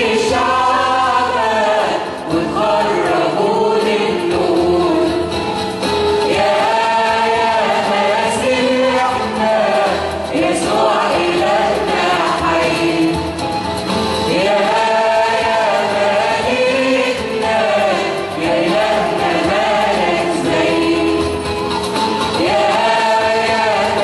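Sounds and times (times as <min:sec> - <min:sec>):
mixed choir singing a hymn: 0:00.0 - 0:24.0.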